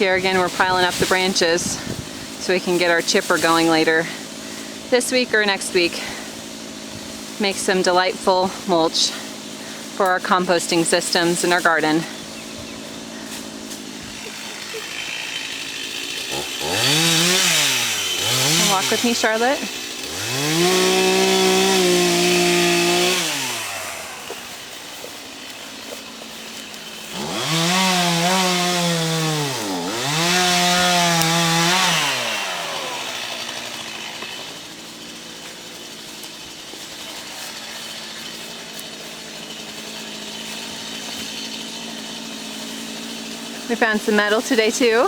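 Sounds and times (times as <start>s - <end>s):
chainsaw revving: 0.0s - 45.0s.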